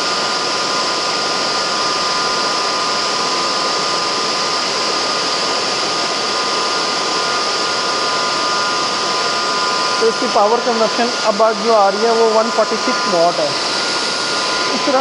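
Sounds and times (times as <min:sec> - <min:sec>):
compressor air rush: 0:00.0 - 0:15.0
high whining tones: 0:00.0 - 0:15.0.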